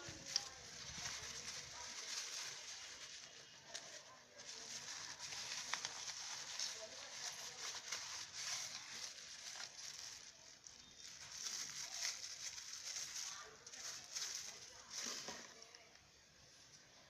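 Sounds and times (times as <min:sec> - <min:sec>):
plastic packaging crinkling: 0:00.0 - 0:16.2.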